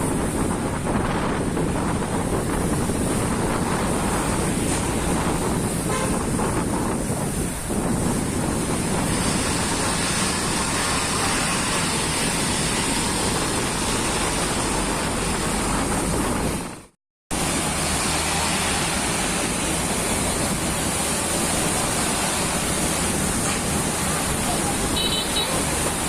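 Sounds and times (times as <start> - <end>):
truck engine rumble: 0.0 - 26.0
tyres hissing on wet road: 0.0 - 26.0.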